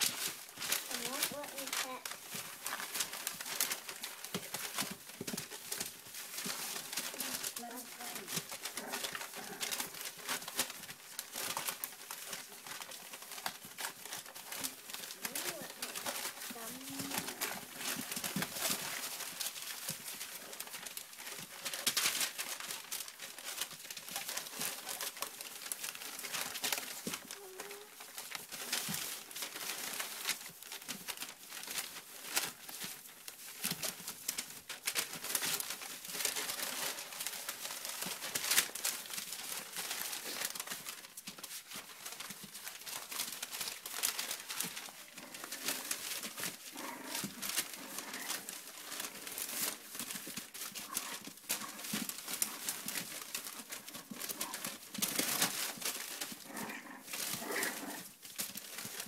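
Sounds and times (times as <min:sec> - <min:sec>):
newspaper crinkling and rustling: 0:00.0 - 0:59.0.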